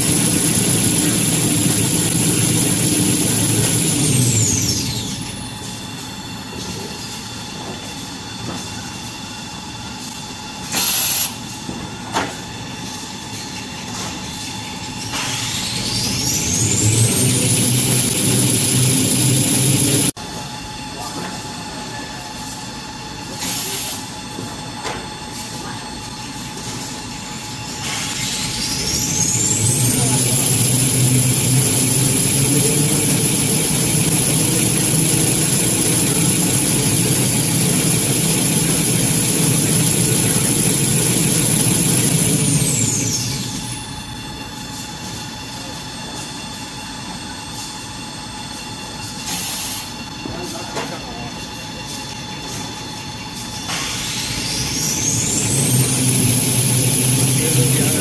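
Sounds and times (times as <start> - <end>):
conveyor machinery running: 0.0 - 58.0
high machine whine: 0.0 - 58.0.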